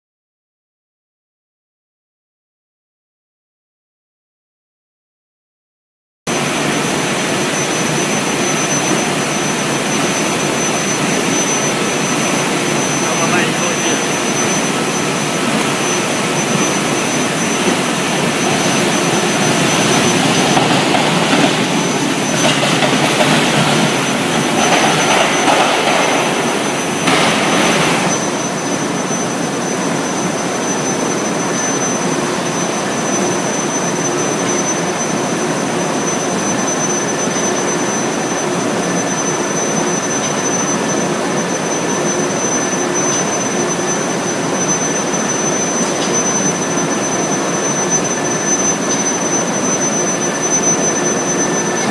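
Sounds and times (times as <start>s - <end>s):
industrial machinery running: 6.3s - 51.9s
thin high whine: 6.3s - 51.9s.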